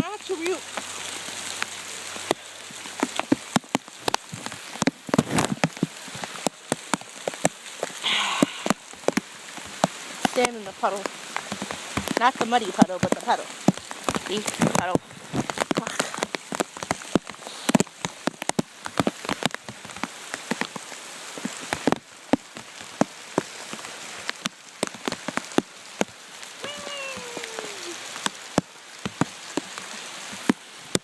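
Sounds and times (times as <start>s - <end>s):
raindrops tapping on plastic: 0.0s - 31.0s.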